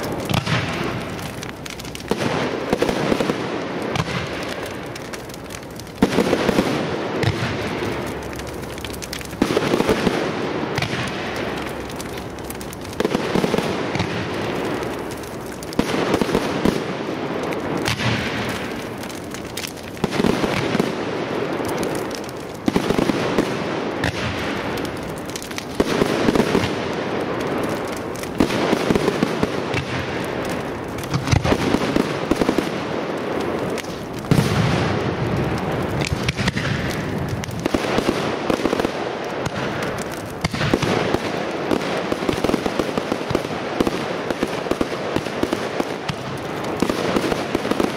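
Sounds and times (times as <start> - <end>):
firework crackling and popping: 0.0 - 47.9.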